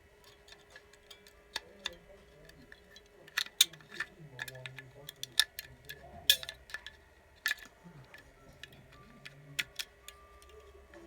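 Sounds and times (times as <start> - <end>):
batteries clicking against plastic: 0.2 - 11.0.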